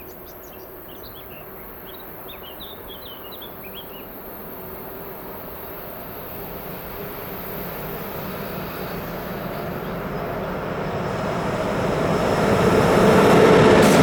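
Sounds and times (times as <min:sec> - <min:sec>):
train wheels rumbling on rails: 0:00.1 - 0:14.0.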